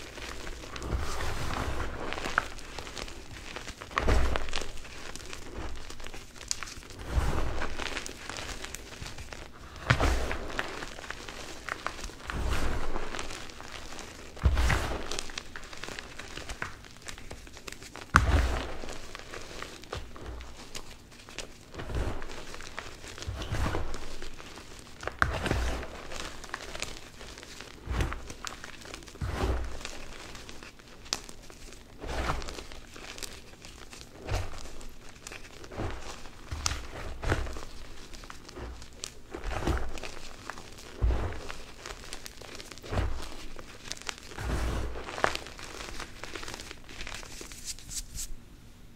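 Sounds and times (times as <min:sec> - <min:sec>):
hands crushing chalk: 0:00.0 - 0:48.4.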